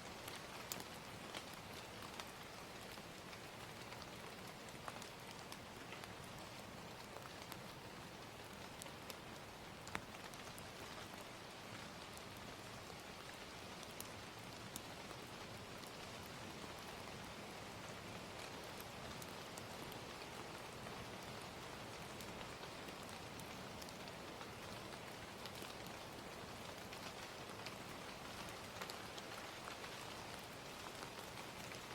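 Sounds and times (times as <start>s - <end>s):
steady gentle rain: 0.0s - 31.9s
wood fire crackling: 0.1s - 31.9s.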